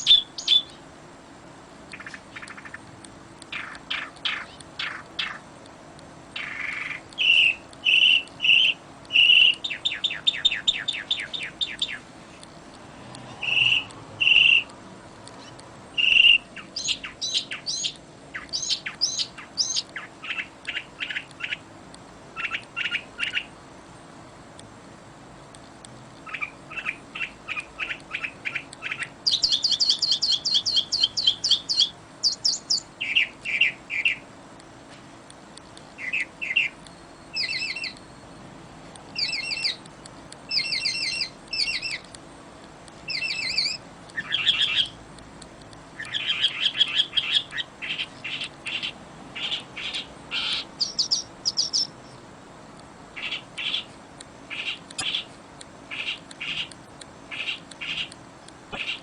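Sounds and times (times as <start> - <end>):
songbirds singing: 0.0 - 23.6, 25.5 - 34.4, 35.2 - 59.0.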